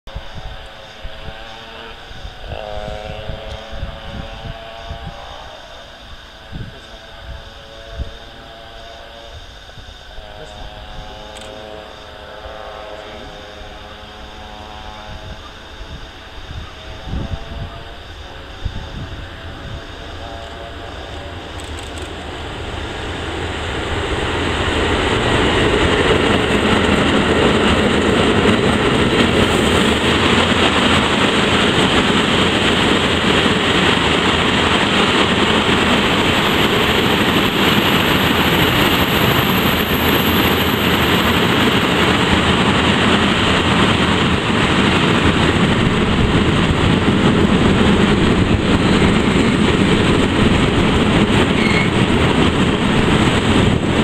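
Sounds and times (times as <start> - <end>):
wheels rushing on rail: 0.0 - 54.0
freight train passing: 0.1 - 54.0.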